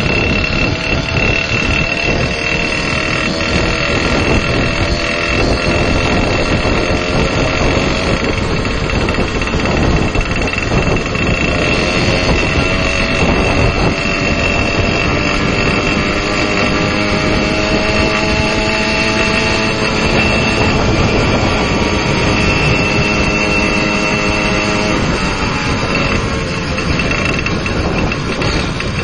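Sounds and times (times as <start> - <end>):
motorcycle engine running: 0.0 - 29.0
thin high whine: 0.0 - 29.0.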